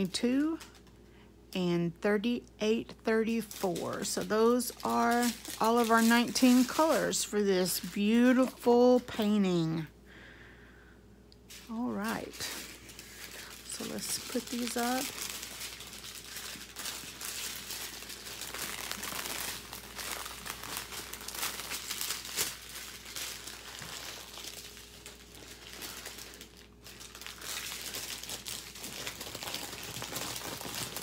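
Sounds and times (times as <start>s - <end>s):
plastic bags crinkling: 0.3s - 1.0s, 3.4s - 9.1s, 11.5s - 31.0s.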